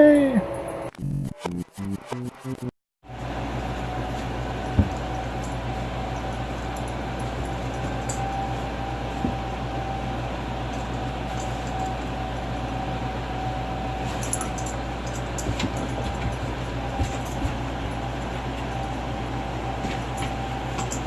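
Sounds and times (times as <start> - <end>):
electric fans humming: 0.0 - 0.9, 3.1 - 21.0
thin steady whine: 3.1 - 21.0.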